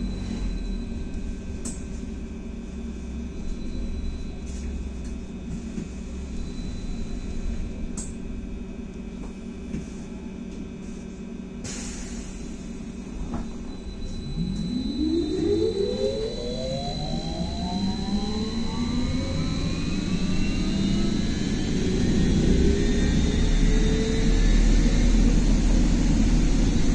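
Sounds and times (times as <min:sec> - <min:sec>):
trolleybus hum and rumble: 0:00.0 - 0:26.9.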